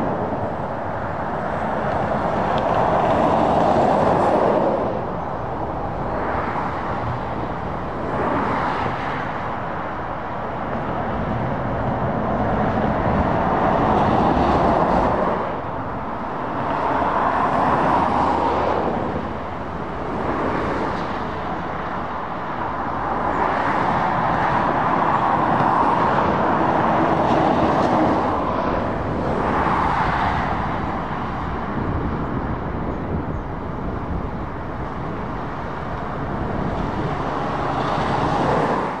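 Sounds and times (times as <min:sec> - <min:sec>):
passing traffic: 0:00.0 - 0:39.0.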